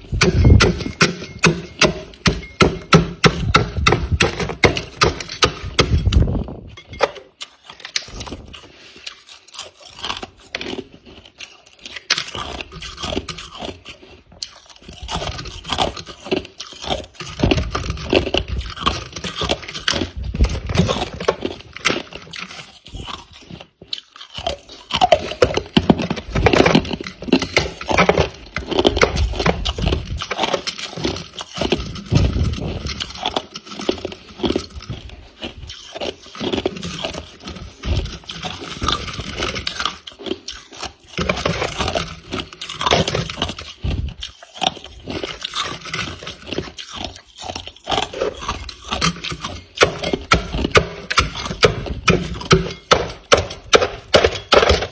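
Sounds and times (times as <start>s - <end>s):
chewing crunchy frost: 0.0s - 54.9s.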